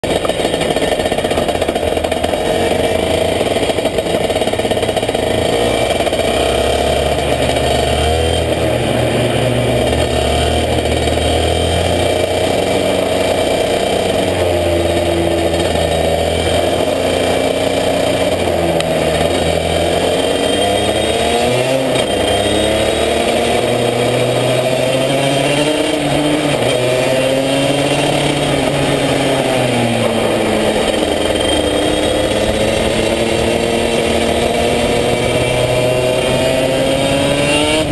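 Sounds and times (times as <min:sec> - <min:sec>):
kart engine revving: 0:00.0 - 0:37.9.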